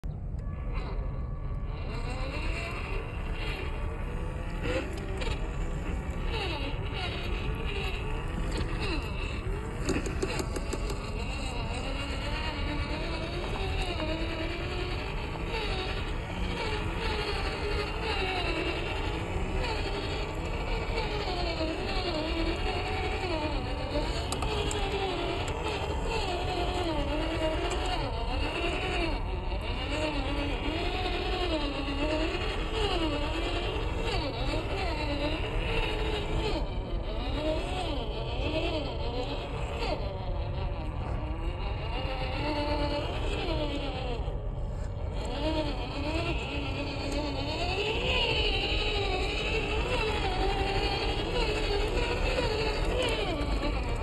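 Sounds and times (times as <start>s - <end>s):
rc car motor whining: 0.0s - 54.0s.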